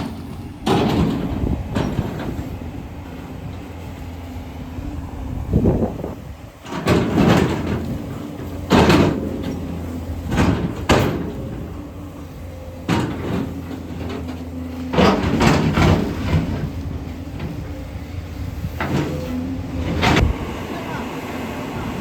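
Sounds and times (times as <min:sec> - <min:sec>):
excavator running: 0:00.0 - 0:22.0.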